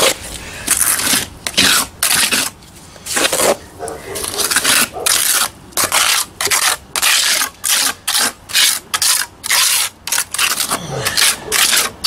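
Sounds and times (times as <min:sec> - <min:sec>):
trowel scraping wet cement: 0:00.0 - 0:12.0.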